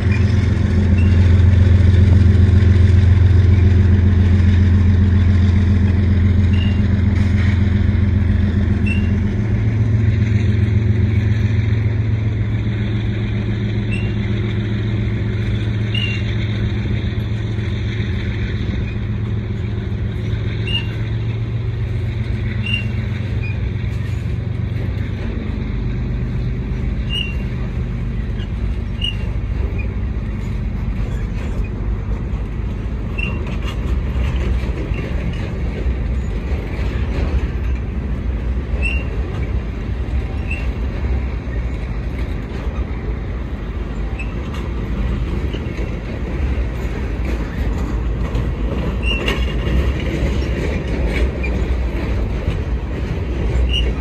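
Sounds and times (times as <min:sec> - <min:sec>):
diesel locomotive drone: 0:00.0 - 0:54.0
freight train rumbling past: 0:00.0 - 0:54.0.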